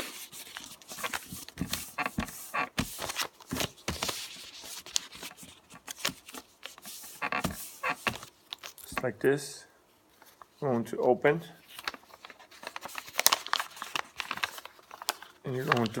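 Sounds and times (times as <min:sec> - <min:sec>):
paper being folded and creased: 0:00.0 - 0:09.0, 0:11.6 - 0:16.0.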